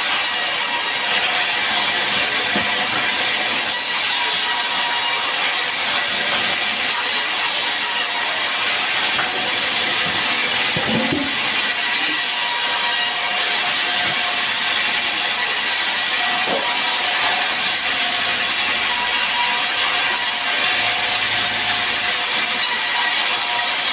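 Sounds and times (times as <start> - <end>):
sawmill saw cutting wood: 0.0 - 23.9.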